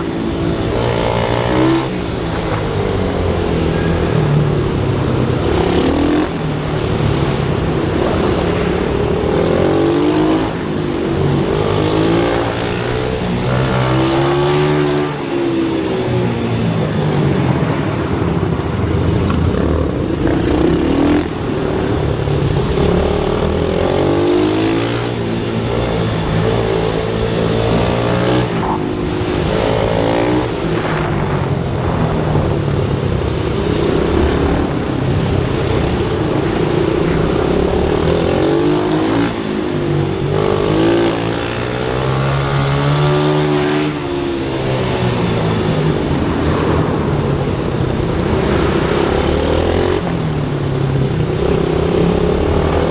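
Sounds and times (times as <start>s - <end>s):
pit bike engines revving: 0.0s - 52.9s.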